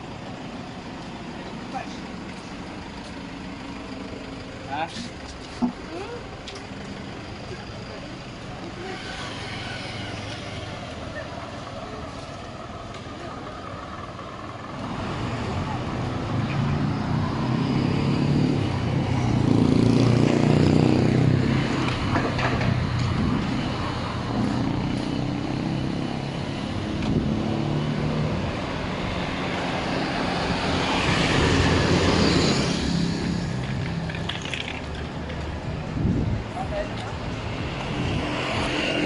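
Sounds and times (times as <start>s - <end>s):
vehicles passing close by: 0.0s - 39.0s.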